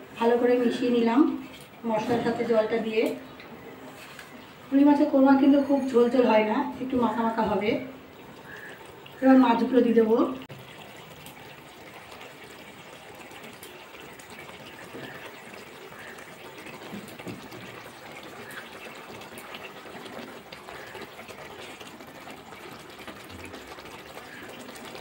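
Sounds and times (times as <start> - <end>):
gravy simmering with bubbling sizzle: 0.0 - 25.0.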